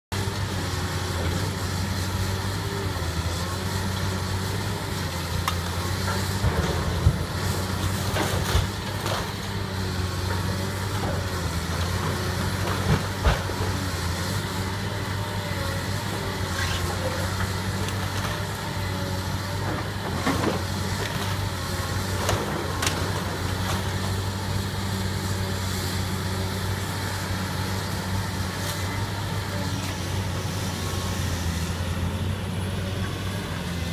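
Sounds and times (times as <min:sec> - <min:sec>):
excavator diesel engine humming: 0:00.2 - 0:33.9.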